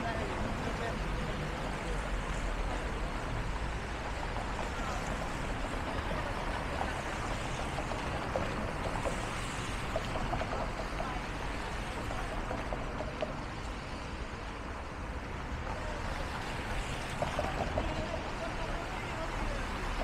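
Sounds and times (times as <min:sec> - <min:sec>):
wet street traffic: 0:00.0 - 0:20.0.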